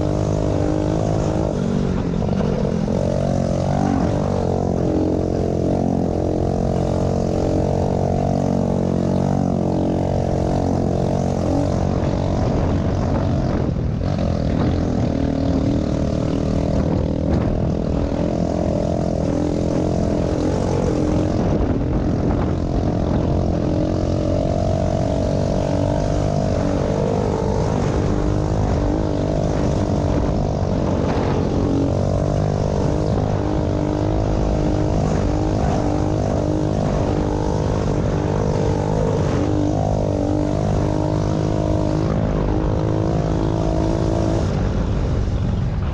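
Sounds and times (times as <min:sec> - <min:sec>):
pit bike engine running: 0:00.0 - 0:45.9.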